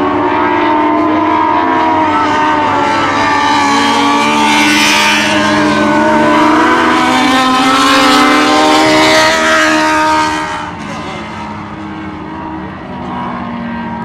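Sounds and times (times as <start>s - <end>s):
race car engines passing: 0.0s - 14.0s.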